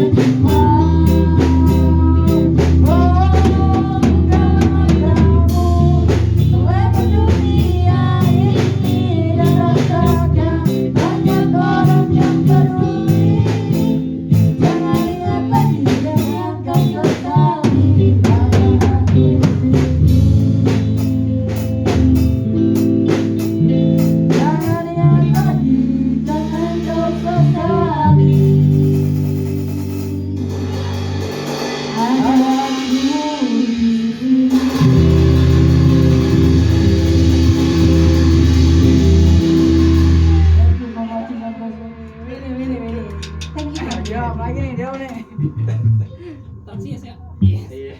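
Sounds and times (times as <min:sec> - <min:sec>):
person singing: 0:00.0 - 0:20.2, 0:24.3 - 0:29.0, 0:30.0 - 0:47.9
drum kit: 0:00.0 - 0:47.9
guitar: 0:00.0 - 0:47.9.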